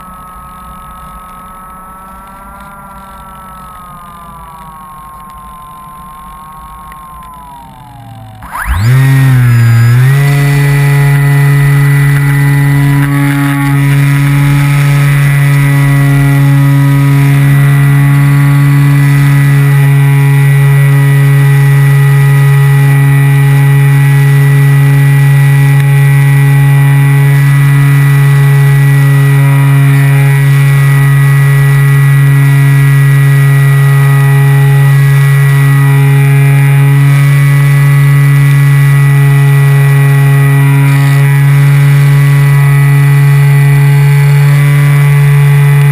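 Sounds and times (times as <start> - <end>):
electric motor and propeller buzz: 0.0 - 45.9.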